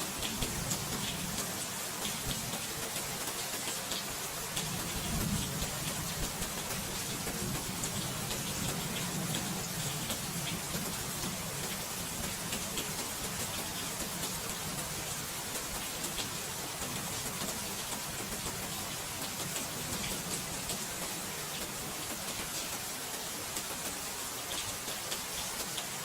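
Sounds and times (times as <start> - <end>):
rain hissing: 0.0 - 26.0
raindrop ticks: 0.1 - 26.0.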